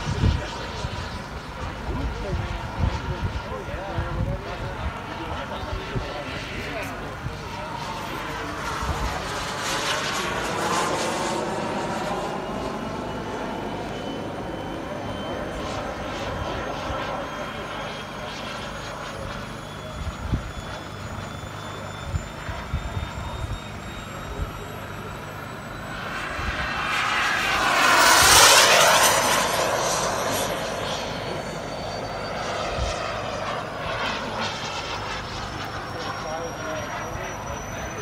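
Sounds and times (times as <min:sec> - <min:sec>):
model jet engine whining: 0:00.0 - 0:38.0.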